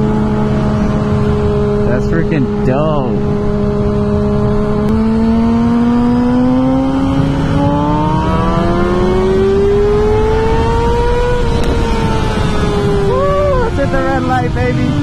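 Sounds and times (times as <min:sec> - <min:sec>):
loud wind rush: 0:00.0 - 0:15.0
motorcycle engine accelerating: 0:00.0 - 0:15.0.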